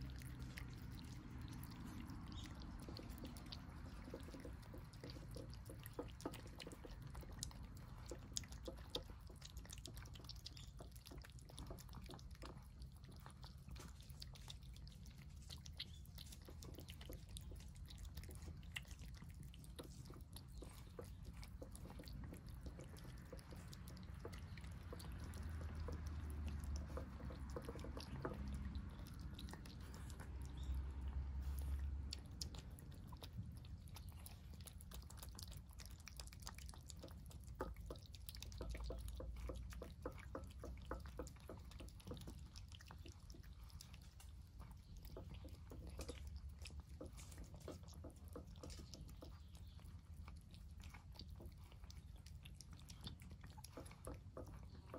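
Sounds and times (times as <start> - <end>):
cats chewing wet food: 0.0 - 54.9.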